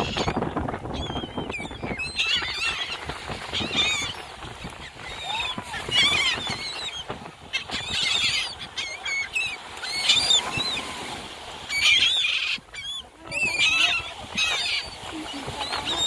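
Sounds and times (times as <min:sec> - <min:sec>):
gulls squawking: 0:00.0 - 0:16.0.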